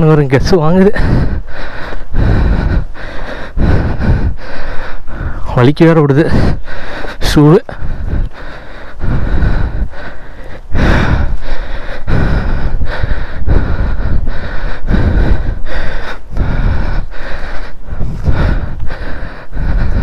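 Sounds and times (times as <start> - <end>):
heavy fast breathing: 0.0 - 20.0.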